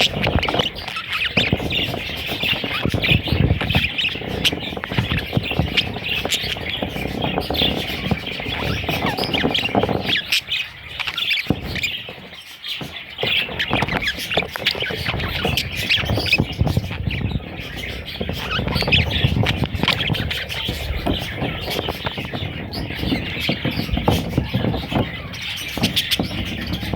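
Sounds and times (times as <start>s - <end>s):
budgerigars squawking and chattering: 0.0s - 26.9s.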